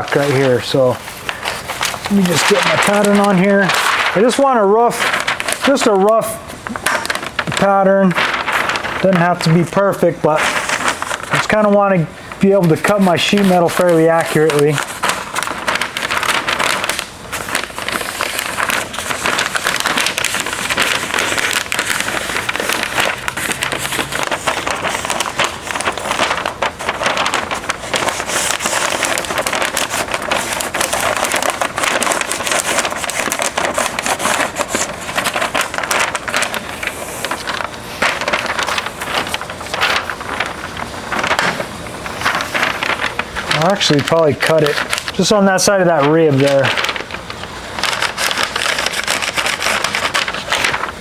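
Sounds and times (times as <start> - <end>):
paper crinkling and rustling: 0.0 - 51.0.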